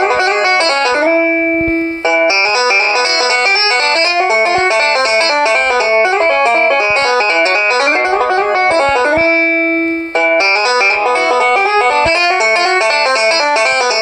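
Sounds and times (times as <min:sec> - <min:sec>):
phone ringtone plucked melody: 0:00.0 - 0:14.0.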